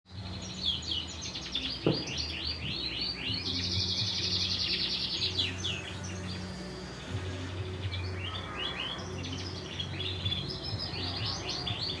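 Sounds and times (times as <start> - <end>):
canary singing: 0.2 - 12.0.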